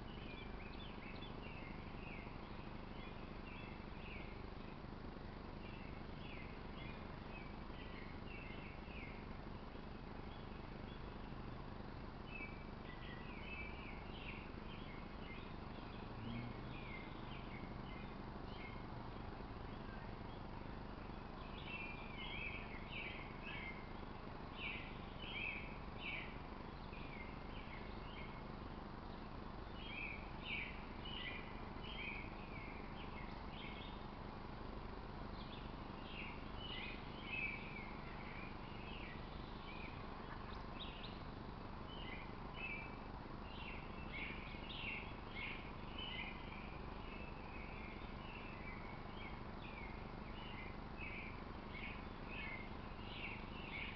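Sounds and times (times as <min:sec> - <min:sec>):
low outdoor background noise: 0:00.0 - 0:53.9
small birds chirping: 0:00.0 - 0:53.9.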